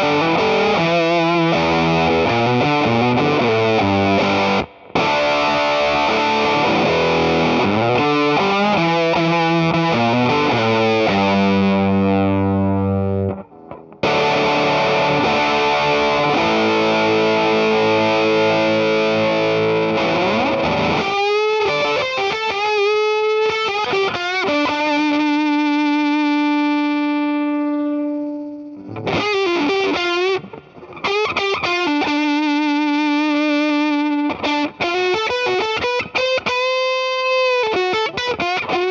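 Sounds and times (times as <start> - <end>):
fuzzed electric guitar: 0.0 - 38.9.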